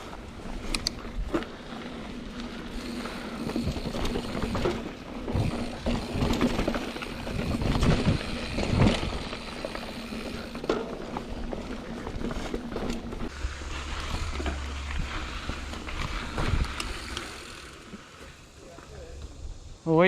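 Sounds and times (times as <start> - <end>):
bike rattling over bumps: 0.0 - 19.4
mountain bike tyre rumble: 0.0 - 20.0.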